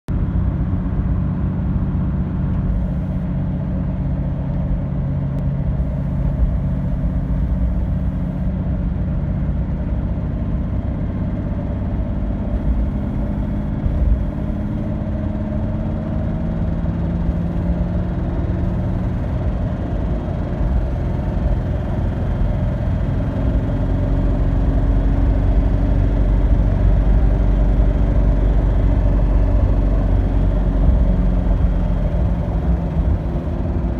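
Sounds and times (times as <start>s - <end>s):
diesel engine rumbling: 0.1s - 33.9s
engine ticking: 5.4s - 15.9s, 17.2s - 33.9s.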